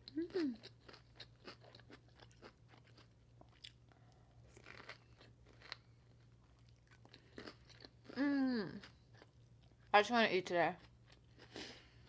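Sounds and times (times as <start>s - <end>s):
person chewing food: 0.0s - 9.9s, 10.8s - 12.0s.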